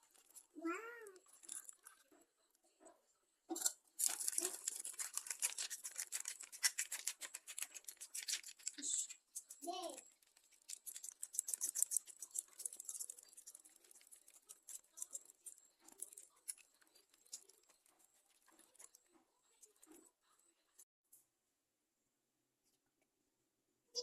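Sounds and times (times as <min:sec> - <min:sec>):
food preparation clicking and scratching: 0:00.0 - 0:20.9.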